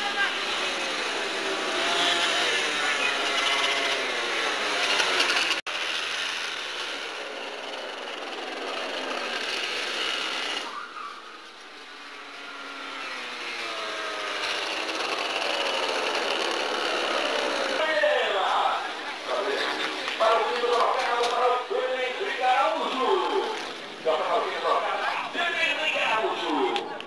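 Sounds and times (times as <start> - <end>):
kart engines buzzing: 0.0 - 27.0.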